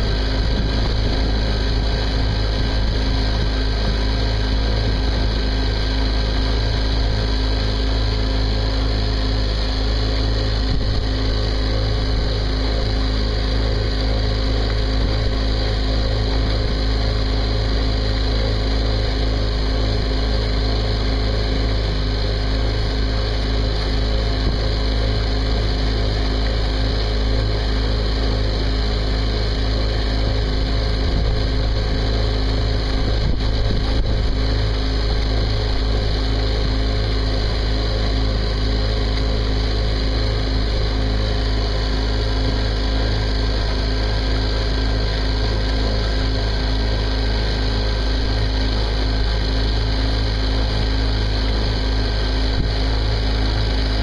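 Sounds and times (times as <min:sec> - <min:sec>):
boat diesel engine droning: 0:00.0 - 0:54.0.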